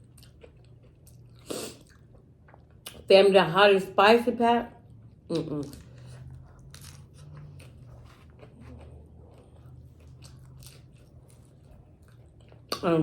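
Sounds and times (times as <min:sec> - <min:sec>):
chewing and biting crunches: 0:00.0 - 0:03.0, 0:05.0 - 0:13.0
faint low hum: 0:00.0 - 0:13.0.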